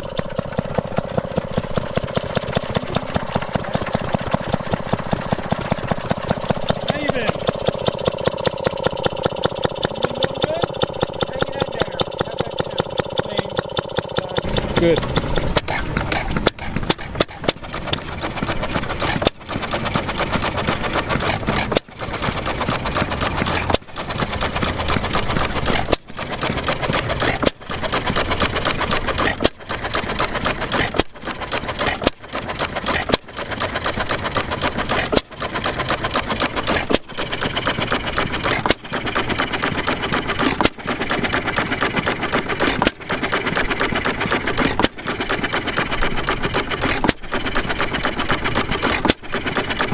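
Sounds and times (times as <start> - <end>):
gas engine clattering: 0.0 - 49.9.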